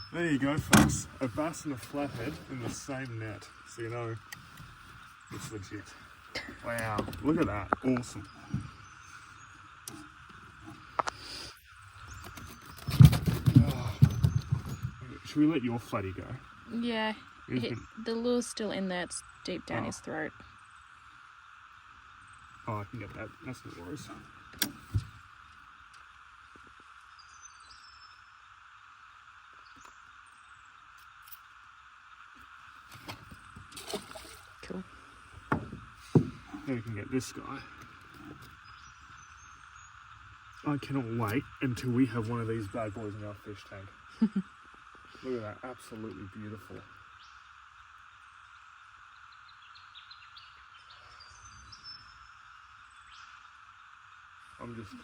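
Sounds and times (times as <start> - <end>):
small birds chirping: 0.0 - 32.2, 32.9 - 55.0
insects droning: 0.0 - 55.0.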